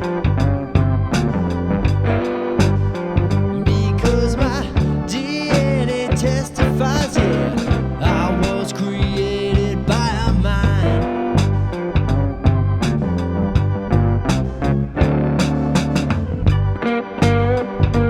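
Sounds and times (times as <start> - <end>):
bass: 0.0 - 18.0
bending sliding lead guitar line: 0.0 - 18.0
steady drum beat: 2.6 - 18.0.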